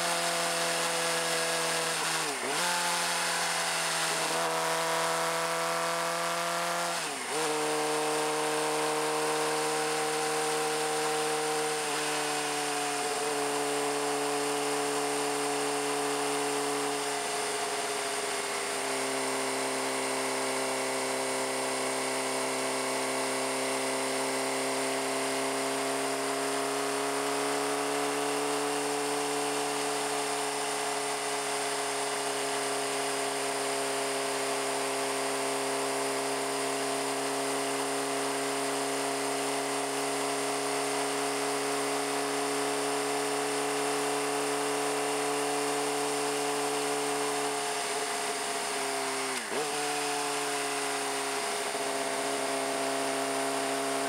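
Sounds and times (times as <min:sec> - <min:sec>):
motorcycle engine high buzzing whine: 0:00.0 - 0:54.0.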